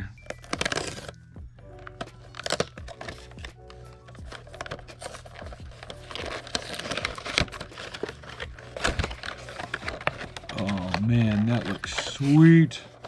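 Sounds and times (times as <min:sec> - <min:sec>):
faint background music: 0:00.0 - 0:13.0
wrapping crinkling: 0:00.2 - 0:13.0.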